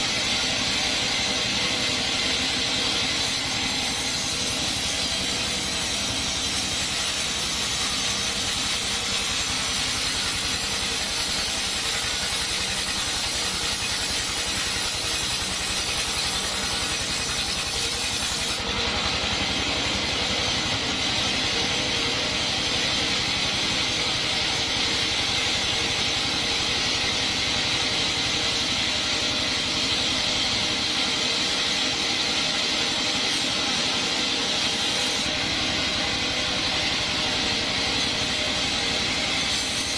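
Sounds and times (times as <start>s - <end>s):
band saw sawing wood: 0.0s - 39.9s.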